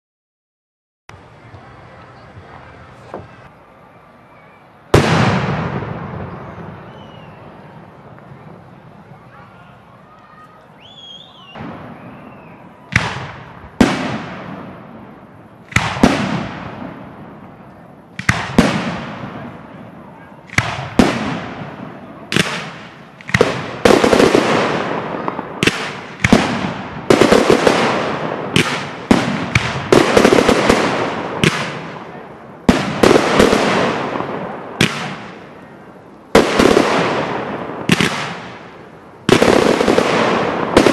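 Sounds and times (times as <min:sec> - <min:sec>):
fireworks bangs with echo: 0:04.9 - 0:40.9.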